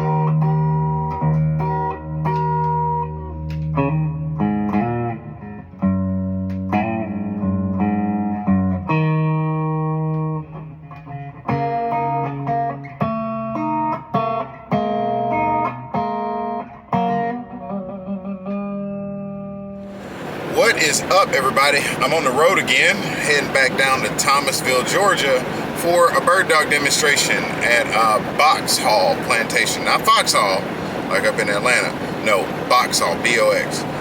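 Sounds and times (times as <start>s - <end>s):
guitar plucked notes and chords: 0.0s - 34.0s.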